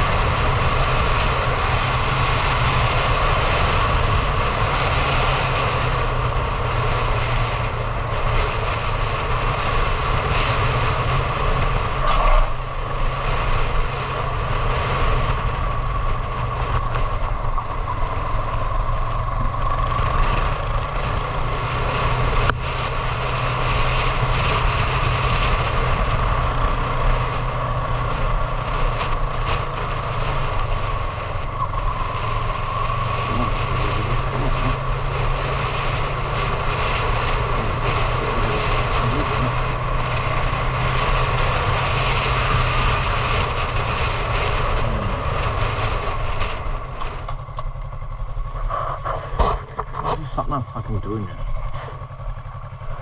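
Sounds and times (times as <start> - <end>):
motorcycle engine cruising: 0.0 - 53.0
wind rushing over microphone: 0.0 - 53.0.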